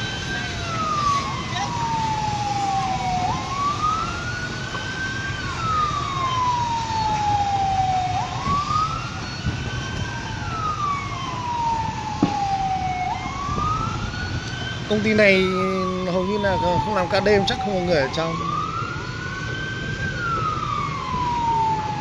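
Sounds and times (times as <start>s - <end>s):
siren wailing: 0.0s - 22.0s.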